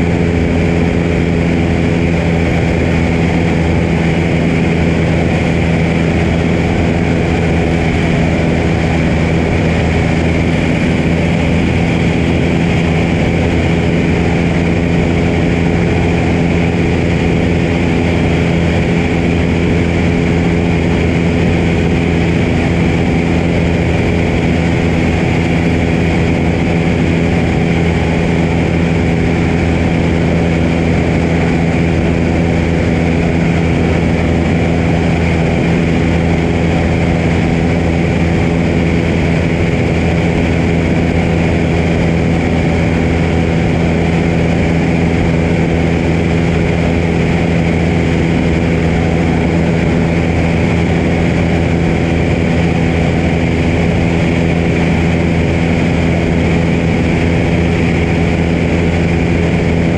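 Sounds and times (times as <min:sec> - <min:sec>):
plane engine and propeller drone: 0:00.0 - 0:59.9.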